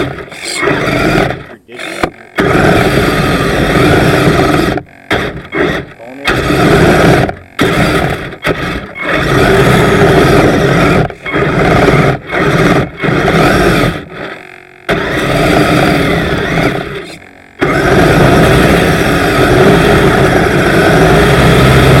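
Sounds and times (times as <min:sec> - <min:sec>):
toy electric motors and tracks running: 0:00.0 - 0:22.0.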